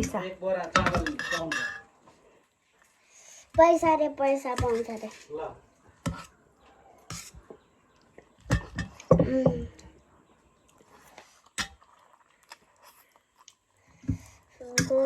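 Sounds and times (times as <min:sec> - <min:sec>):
people chewing and slurping: 0:00.0 - 0:03.6, 0:04.6 - 0:15.0.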